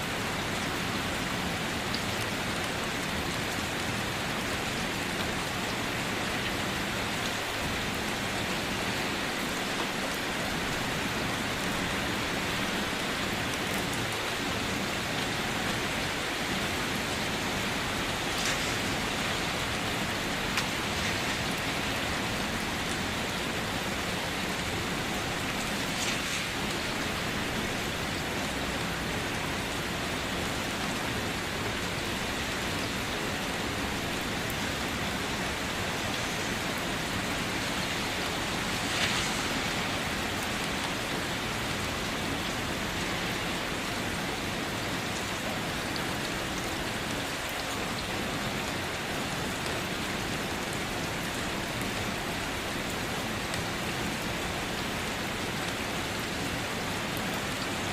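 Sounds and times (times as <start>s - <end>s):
rain pattering on a surface: 0.0s - 57.9s.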